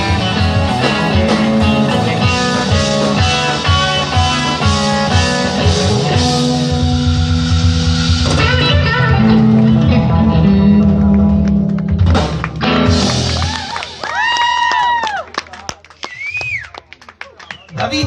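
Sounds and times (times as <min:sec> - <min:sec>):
drum kit: 0:00.0 - 0:15.0
bass guitar: 0:00.0 - 0:15.2
electric guitar: 0:00.0 - 0:15.2.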